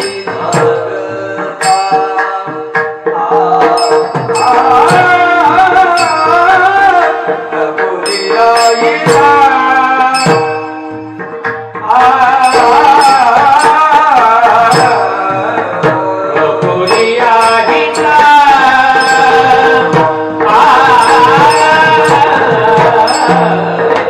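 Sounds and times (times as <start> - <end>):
drum strokes: 0.0 - 24.0
person singing devotional song: 0.0 - 24.0.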